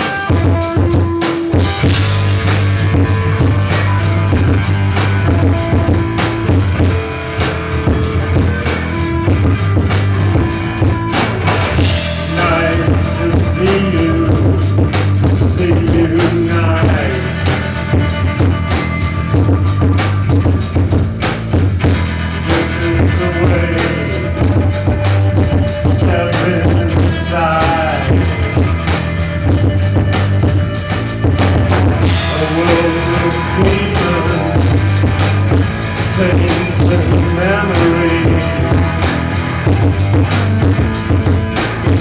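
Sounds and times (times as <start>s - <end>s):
live rock band playing: 0.0s - 42.0s.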